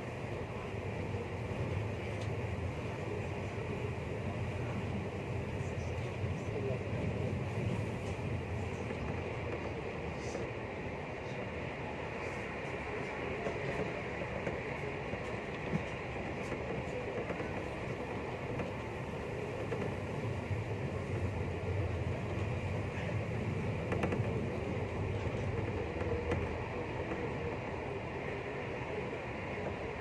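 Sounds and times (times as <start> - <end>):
train rumble and rail noise: 0.0 - 30.0.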